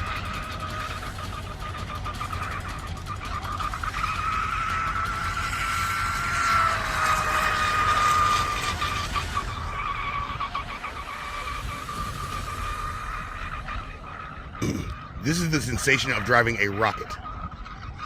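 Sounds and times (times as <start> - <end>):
speedboat high whine: 0.0 - 18.0.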